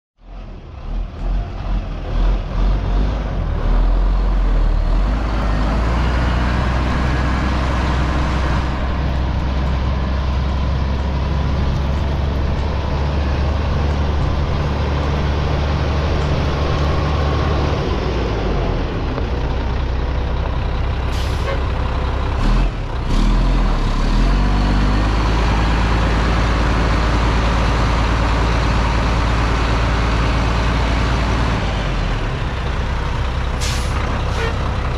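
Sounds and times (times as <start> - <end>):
diesel truck engine idling: 0.3 - 23.1, 24.8 - 34.9.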